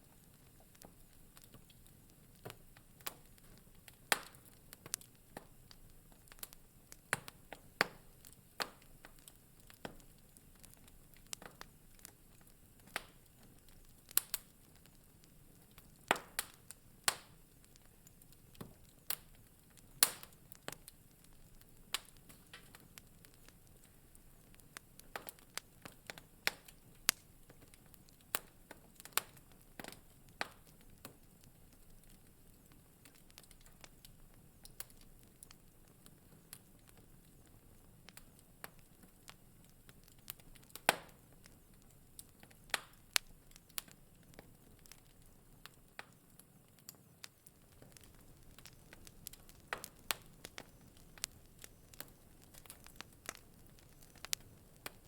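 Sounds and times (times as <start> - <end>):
faint steady hiss: 0.0 - 55.0
wood fire crackling: 0.0 - 55.0.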